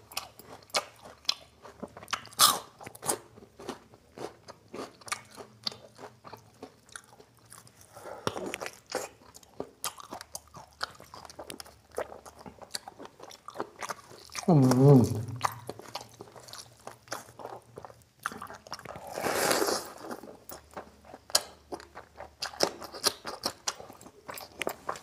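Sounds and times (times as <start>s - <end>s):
wet chewing and mouth sounds: 0.0s - 25.0s.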